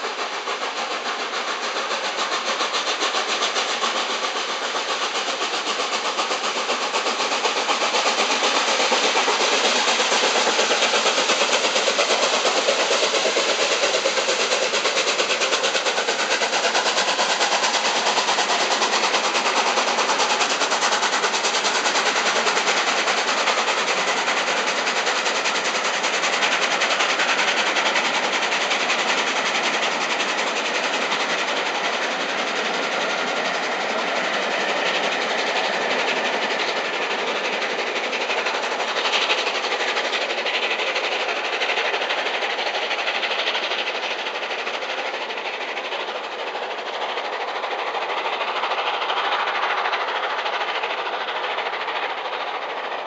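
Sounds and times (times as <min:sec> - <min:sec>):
fast wheel clatter: 0:00.0 - 0:53.0.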